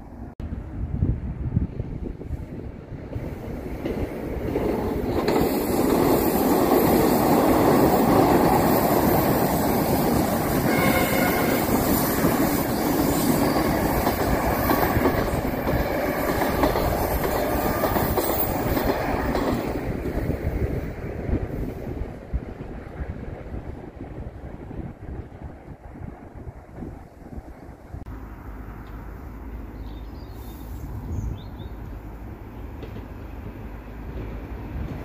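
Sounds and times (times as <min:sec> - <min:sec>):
train wheels rumbling on rails: 0:00.2 - 0:28.2, 0:28.8 - 0:35.0.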